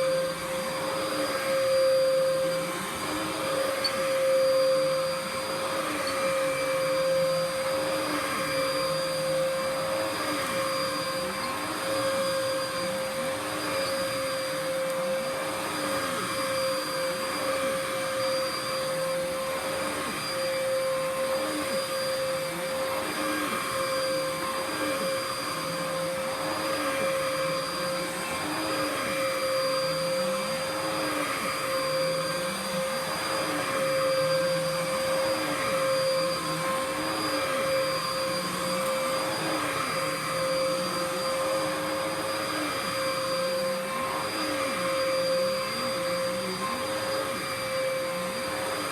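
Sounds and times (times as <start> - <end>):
upright vacuum cleaner running: 0.0 - 48.9.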